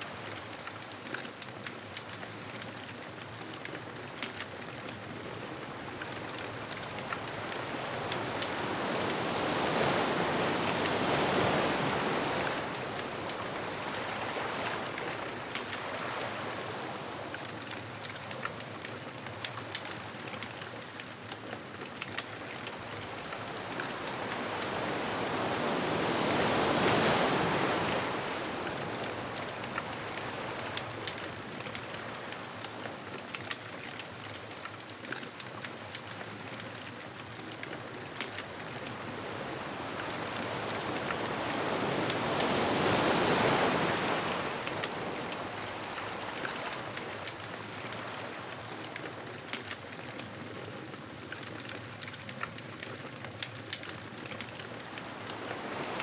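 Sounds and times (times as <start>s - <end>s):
ocean waves washing up beach: 0.0s - 56.0s
wood bonfire crackling: 0.0s - 56.0s.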